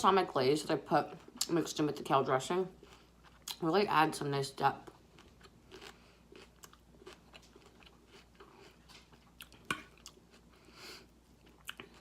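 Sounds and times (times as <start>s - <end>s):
chewing crunchy salad: 0.6s - 2.1s, 2.7s - 3.8s, 4.8s - 12.0s.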